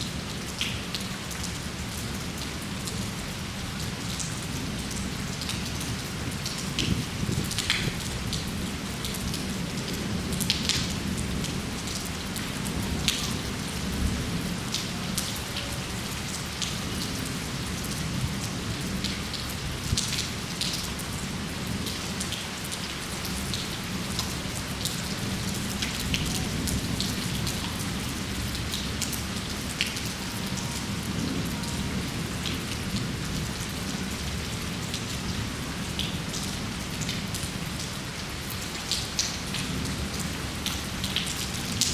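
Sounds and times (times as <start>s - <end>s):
raindrops ticking on a surface: 0.0s - 41.9s
steady rain: 0.0s - 41.9s.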